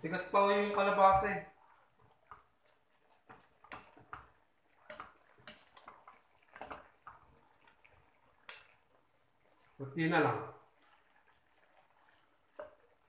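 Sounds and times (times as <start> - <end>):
wooden spatula scraping a pot: 0.0 - 13.0.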